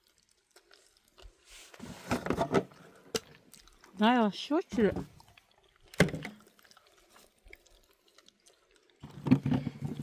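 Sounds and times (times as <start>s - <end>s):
wet chewing of fruit: 0.0s - 2.0s, 2.7s - 4.0s, 5.1s - 10.0s.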